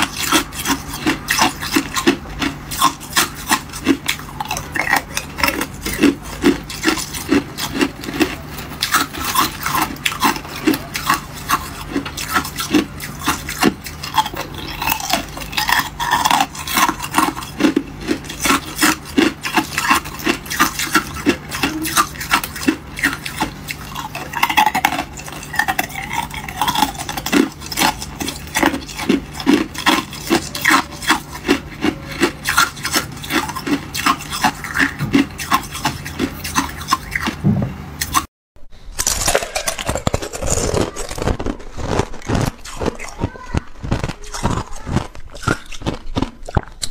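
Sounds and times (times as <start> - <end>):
ice cubes crunched by teeth: 0.0 - 37.3, 38.9 - 46.9.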